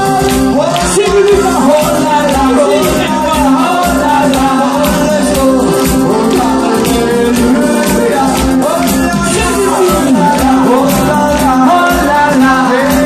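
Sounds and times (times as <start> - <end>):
live band playing: 0.0 - 13.0
man singing into microphone: 0.0 - 13.0.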